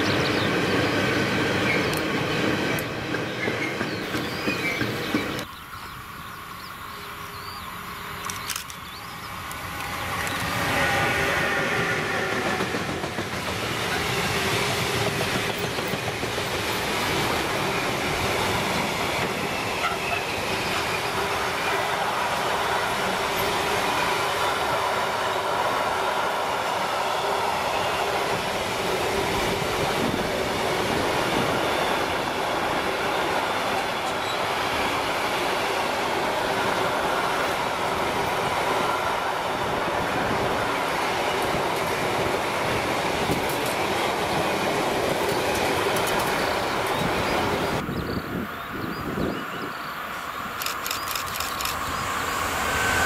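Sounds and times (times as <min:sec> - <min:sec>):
electric locomotive passing: 0:00.0 - 0:53.0
rolling train wheels: 0:00.0 - 0:53.0.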